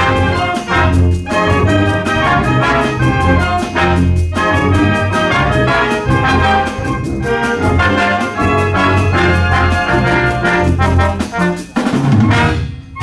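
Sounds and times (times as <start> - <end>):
wind band playing: 0.0 - 13.0.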